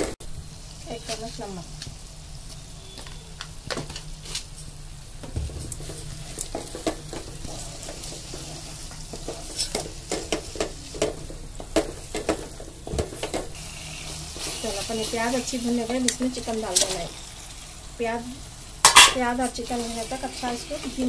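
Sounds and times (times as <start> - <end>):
masala sizzling in oil: 0.2 - 21.0.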